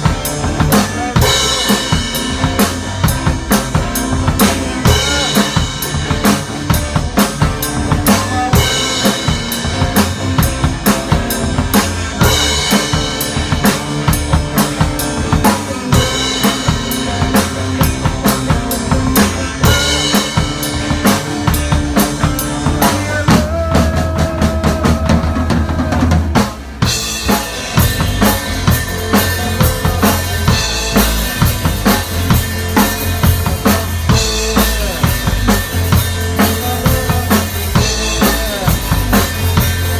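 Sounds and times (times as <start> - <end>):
music with drum kit beat: 0.0 - 39.9.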